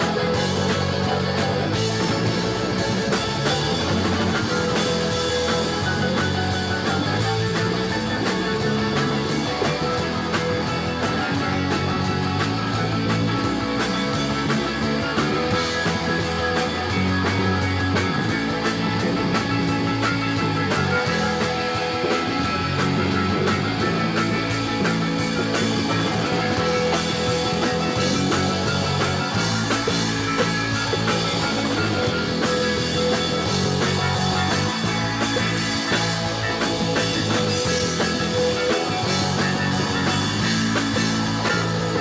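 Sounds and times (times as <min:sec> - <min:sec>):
cymbals keeping fast beat: 0:00.0 - 0:42.0
rock band playing: 0:00.0 - 0:42.0.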